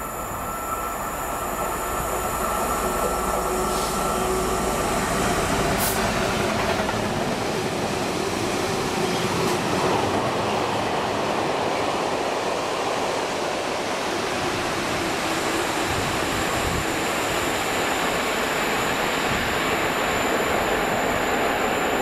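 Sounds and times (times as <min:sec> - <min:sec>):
train wheels rushing on rails: 0:00.0 - 0:22.0.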